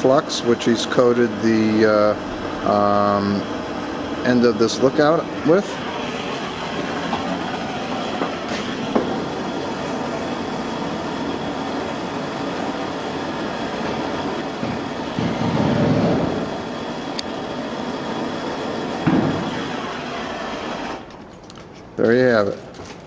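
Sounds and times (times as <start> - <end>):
gas torch flame hissing: 0.0 - 21.4.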